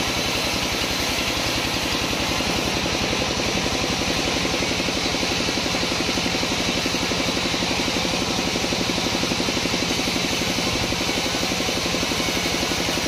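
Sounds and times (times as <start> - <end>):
pulsing sawmill engine: 0.0 - 13.0.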